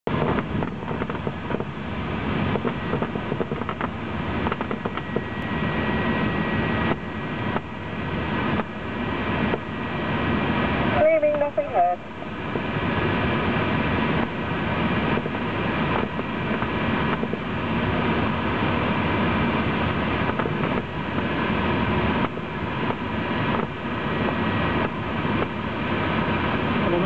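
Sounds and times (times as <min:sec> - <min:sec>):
airflow rushing over glider canopy: 0:00.1 - 0:27.0.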